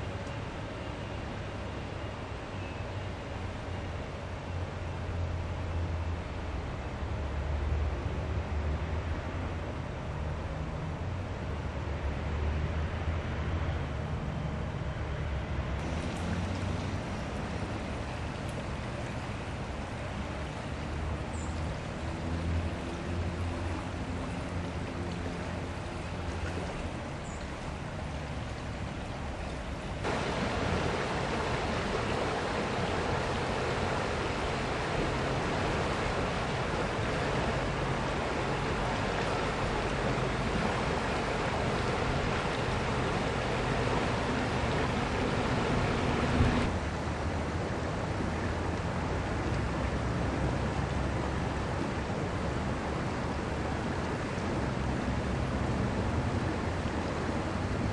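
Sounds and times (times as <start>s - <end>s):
river water rushing: 0.0s - 9.2s, 15.8s - 57.9s.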